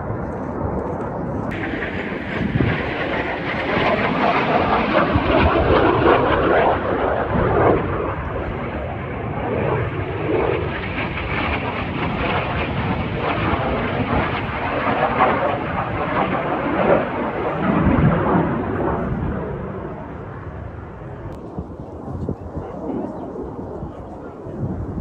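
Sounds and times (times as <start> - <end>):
jets flying past: 0.0 - 25.0.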